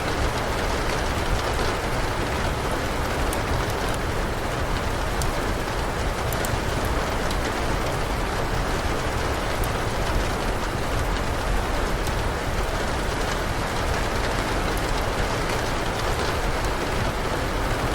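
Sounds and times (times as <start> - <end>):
steady rain: 0.0 - 17.9
wood fire crackling: 0.1 - 17.9.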